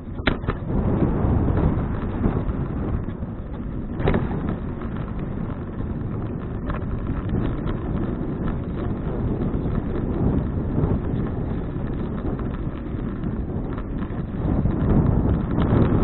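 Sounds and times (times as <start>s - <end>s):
knocks from bicycle ride: 0.0s - 16.0s
wind buffeting microphone: 0.0s - 16.0s.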